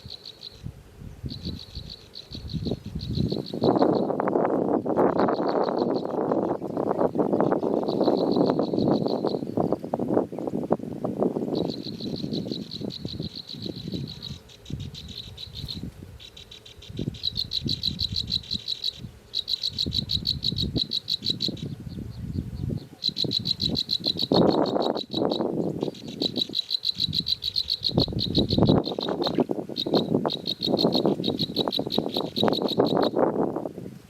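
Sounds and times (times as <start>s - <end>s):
animal's high-pitched pulsing trill: 1.3s - 4.3s, 5.1s - 9.5s, 11.5s - 21.8s, 22.9s - 33.2s.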